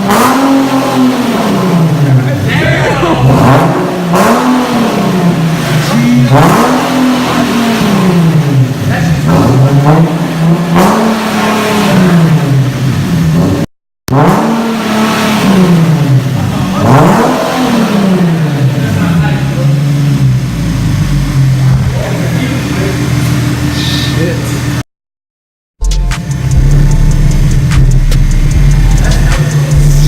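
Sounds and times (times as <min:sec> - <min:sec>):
car engine revving: 0:00.0 - 0:24.8, 0:25.9 - 0:30.0.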